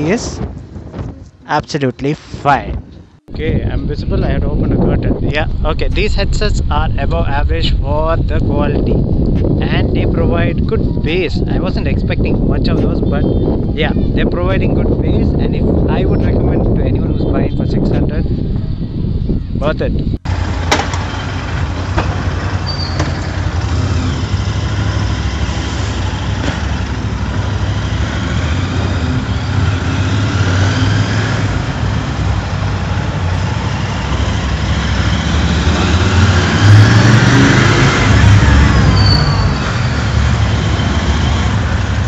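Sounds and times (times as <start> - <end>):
wind noise: 0.0 - 42.0
motorcycle engine rumble: 2.8 - 36.6.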